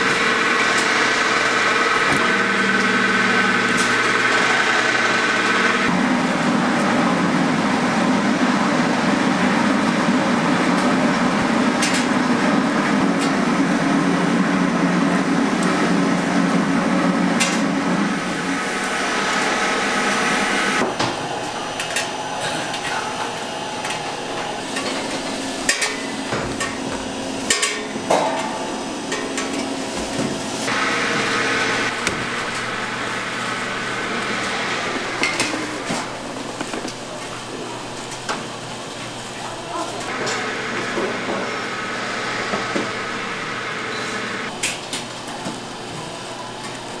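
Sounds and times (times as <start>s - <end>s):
machine droning: 0.0s - 44.6s.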